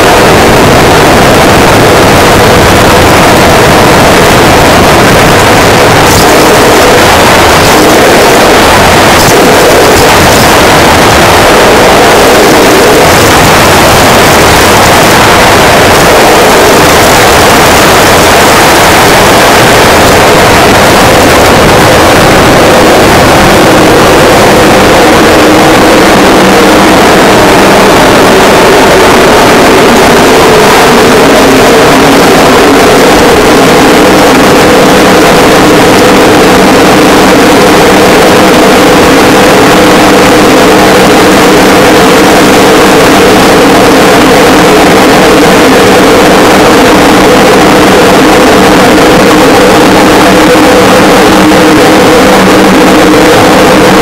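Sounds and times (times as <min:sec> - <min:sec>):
distorted synth noise: 0:00.0 - 0:54.0
droning tones: 0:00.0 - 0:54.0.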